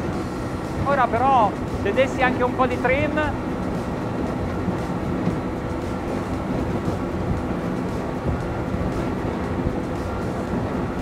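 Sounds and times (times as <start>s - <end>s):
outboard motors droning: 0.0s - 11.0s
rush of spray and wind: 0.0s - 11.0s.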